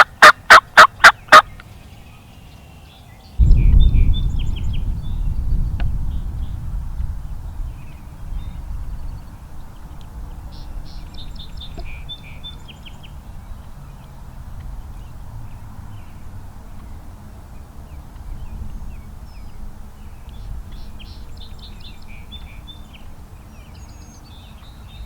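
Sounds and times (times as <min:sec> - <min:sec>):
small birds chirping: 0:01.1 - 0:25.0
steady low rumble: 0:03.4 - 0:23.5.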